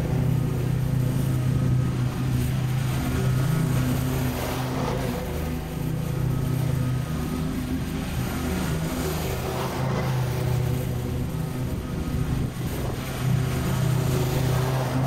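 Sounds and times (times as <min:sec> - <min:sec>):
mower engine cutting grass: 0:00.0 - 0:15.0.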